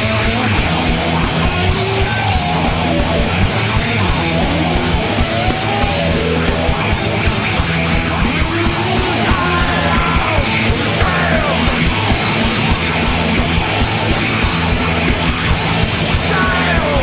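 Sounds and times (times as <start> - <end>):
fuzzed distorted guitars: 0.0 - 17.0
steady drum beat: 0.0 - 17.0.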